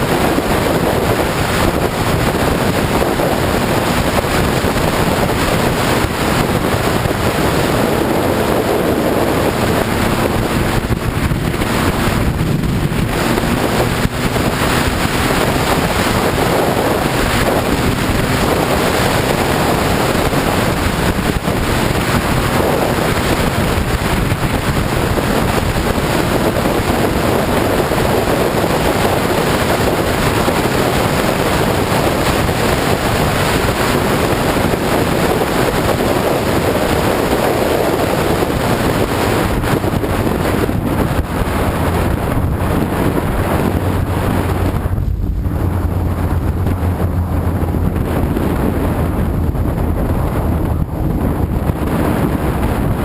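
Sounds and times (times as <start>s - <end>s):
motorcycle engine drone: 0.0s - 53.0s
wind buffeting microphone: 0.0s - 53.0s.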